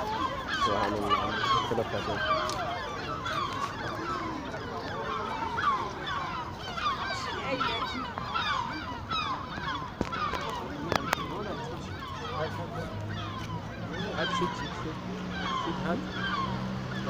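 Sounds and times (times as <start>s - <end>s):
birds squawking and chirping: 0.0s - 17.0s.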